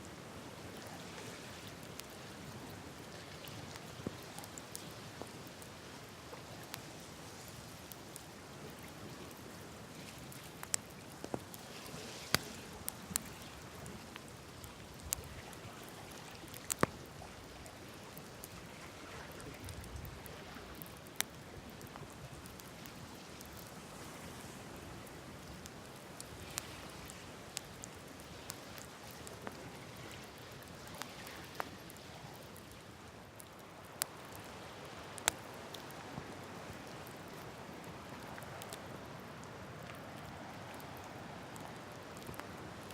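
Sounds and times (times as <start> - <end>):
campfire hissing and crackling: 0.0 - 42.9.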